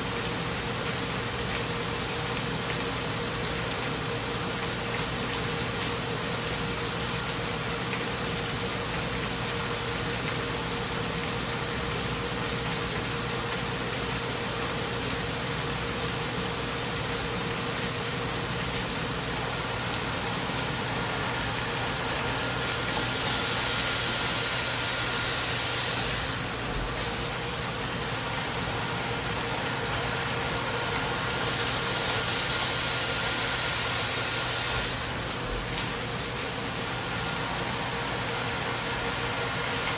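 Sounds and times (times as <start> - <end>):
coolant spray hiss: 0.0 - 39.9.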